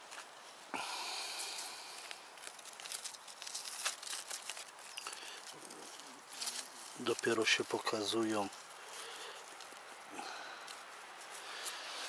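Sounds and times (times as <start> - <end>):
plants rustling and tearing: 0.0 - 12.0
small crackles and snaps: 1.2 - 12.0.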